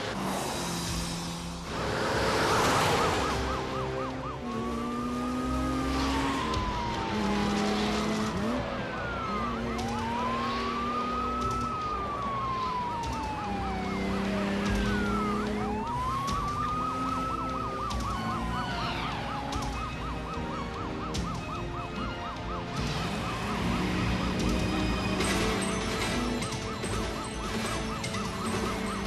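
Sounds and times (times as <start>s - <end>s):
car engines running hard: 0.0s - 29.0s
film score music: 0.0s - 29.0s
police sirens wailing: 0.0s - 29.0s.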